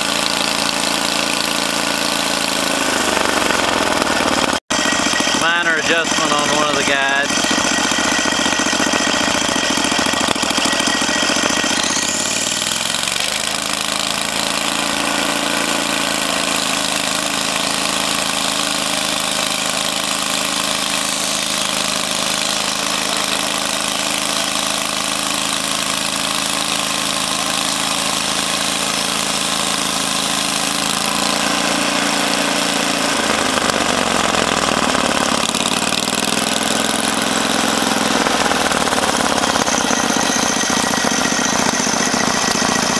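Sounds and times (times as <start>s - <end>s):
sawmill engine revving: 0.0s - 42.9s.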